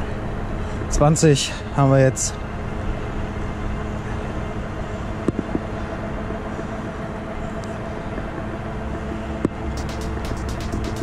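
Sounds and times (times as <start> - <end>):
wind and road noise: 0.0 - 9.8.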